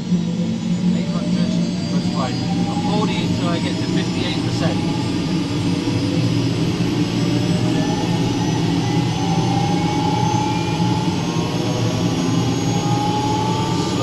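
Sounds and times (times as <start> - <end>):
helicopter turbine whine rising: 0.0 - 14.0
low drone: 0.0 - 14.0.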